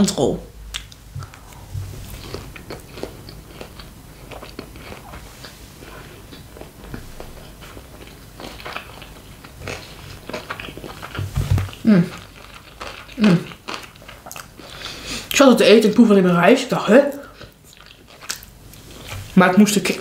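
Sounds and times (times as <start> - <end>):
person chewing sushi: 0.7 - 15.3, 17.2 - 19.4.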